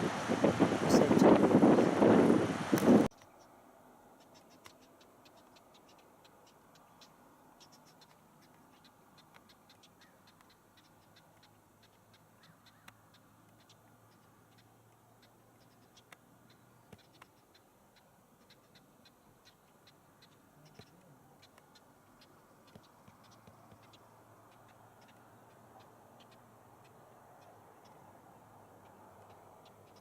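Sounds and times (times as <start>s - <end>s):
small ticks: 4.2s - 30.0s.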